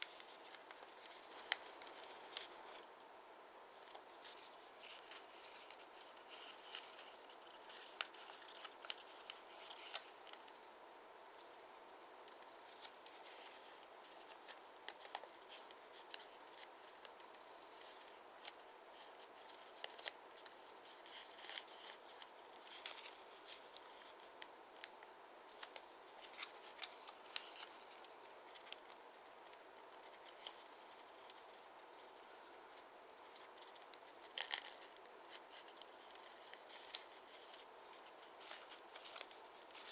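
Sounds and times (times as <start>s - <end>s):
paper rustling and creasing: 0.0s - 3.0s, 3.8s - 10.6s, 12.3s - 39.9s
low steady hiss: 0.0s - 39.9s.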